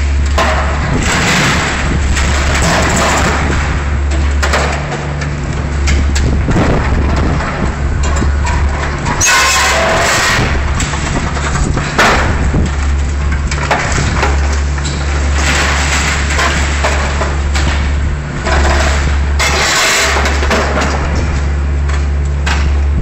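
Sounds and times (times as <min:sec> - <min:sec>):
steel and debris crashing: 0:00.0 - 0:21.5
excavator diesel engine: 0:00.0 - 0:23.0.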